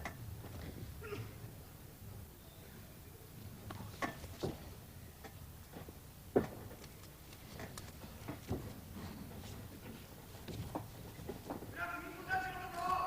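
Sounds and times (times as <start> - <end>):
low hum of hall: 0.0 - 13.0.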